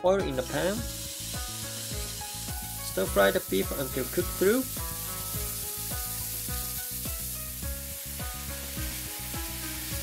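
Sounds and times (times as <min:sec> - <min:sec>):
background music: 0:00.0 - 0:10.0
beef sizzling in hot oil: 0:00.2 - 0:10.0.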